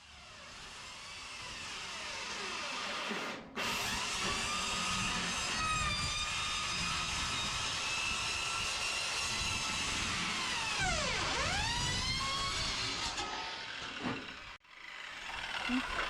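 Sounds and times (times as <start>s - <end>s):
power saw cutting metal: 0.0s - 16.0s.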